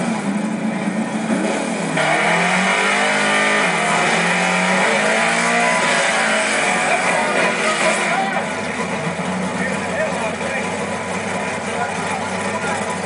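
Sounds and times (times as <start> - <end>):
car engines revving hard: 0.0 - 13.0
tyres spinning on track: 1.8 - 13.0.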